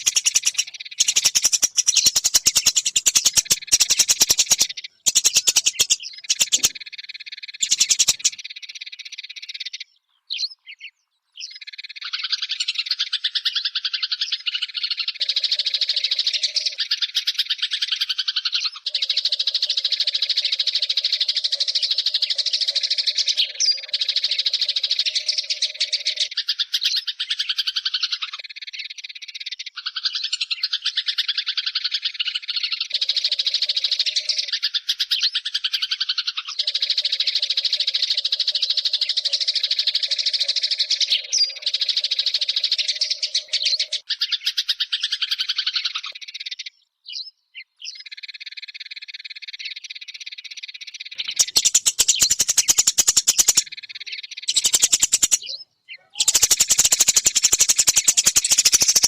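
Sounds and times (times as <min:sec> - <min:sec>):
sparrow chirping: 0:00.0 - 0:59.0.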